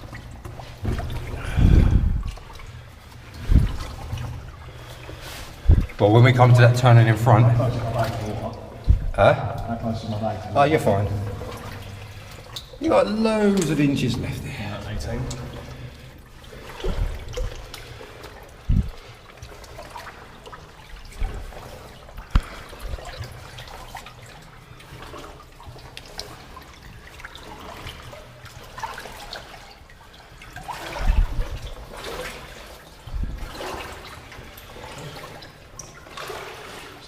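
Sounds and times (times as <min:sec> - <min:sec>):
water sloshing and splashing: 0:00.0 - 0:37.0.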